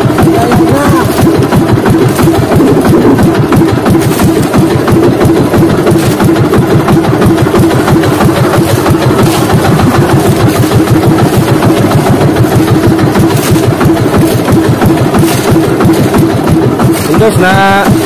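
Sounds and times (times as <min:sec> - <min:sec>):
loud boat engine running: 0:00.0 - 0:18.0.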